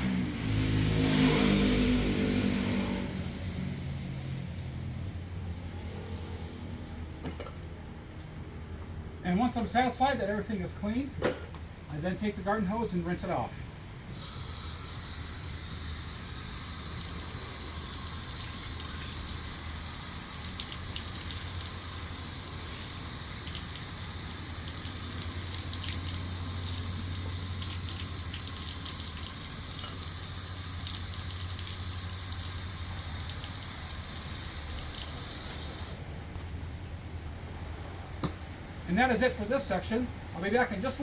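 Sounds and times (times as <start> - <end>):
garden hose spraying water: 0.0 - 7.2, 12.6 - 39.8.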